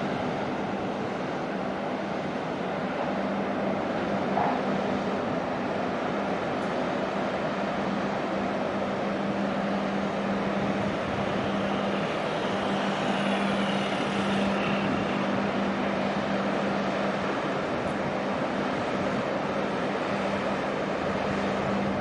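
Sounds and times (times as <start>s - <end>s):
rushing water wash: 0.0s - 22.0s
ship machinery hum: 0.0s - 22.0s.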